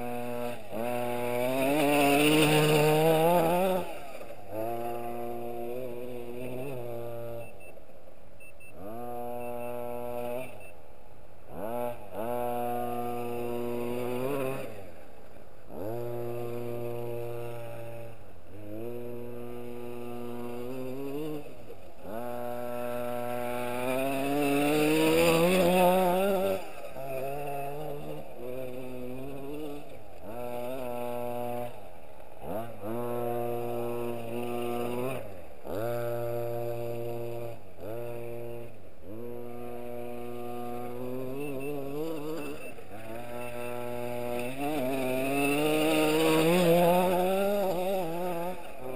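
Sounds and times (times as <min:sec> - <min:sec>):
small two-stroke engine revving: 0:00.0 - 0:07.8, 0:08.6 - 0:10.8, 0:11.4 - 0:48.9.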